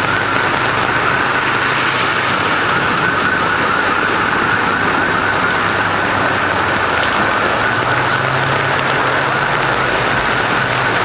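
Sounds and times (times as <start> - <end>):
floodwater rushing and splashing: 0.0 - 11.0
wavering siren-like tone: 0.0 - 11.0.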